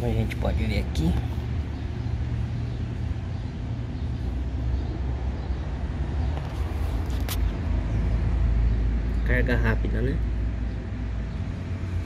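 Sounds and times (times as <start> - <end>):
low outdoor background rumble: 0.0 - 12.0.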